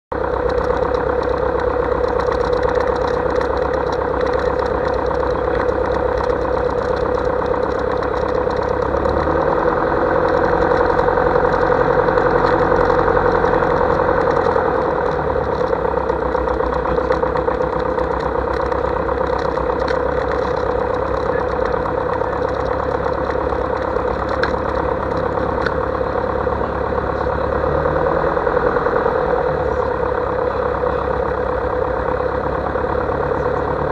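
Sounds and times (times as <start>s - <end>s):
aircraft piston engine idling: 0.1s - 33.9s.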